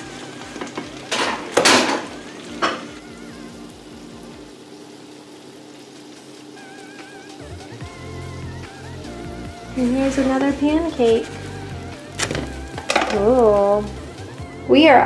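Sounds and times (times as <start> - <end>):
batter sizzling in a pan: 0.0 - 14.6.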